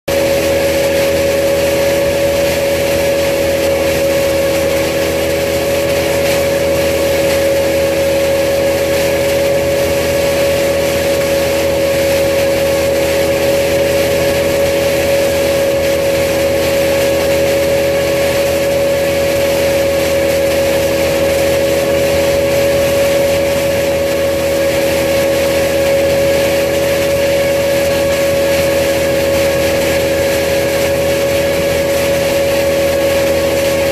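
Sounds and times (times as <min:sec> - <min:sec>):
wood chipper engine running: 0:00.2 - 0:33.9.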